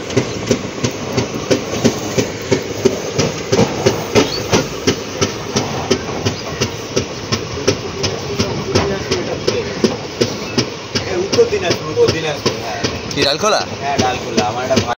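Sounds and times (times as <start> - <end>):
train rumbling hiss: 0.0 - 15.0
train wheels clickety-clack: 0.0 - 15.0.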